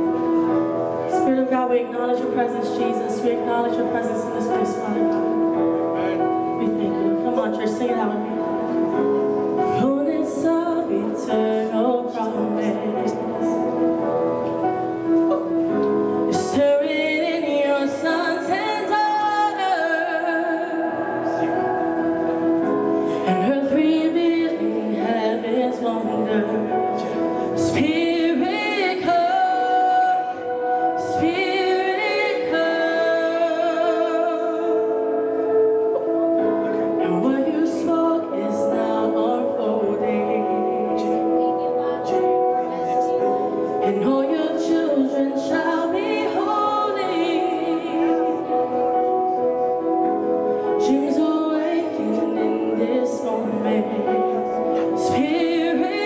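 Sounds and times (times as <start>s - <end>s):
woman singing into microphone: 0.0s - 5.6s, 6.4s - 56.0s
worship band playing: 0.0s - 56.0s.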